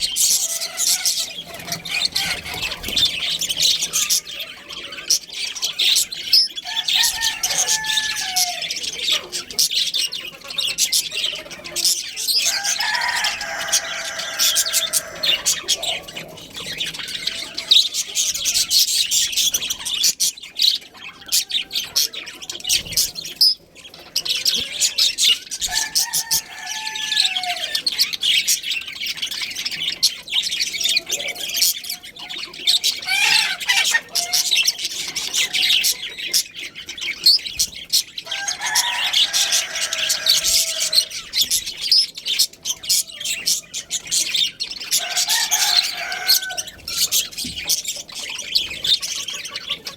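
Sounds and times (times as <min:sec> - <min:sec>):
budgerigars chirping and chattering: 0:00.0 - 0:49.9.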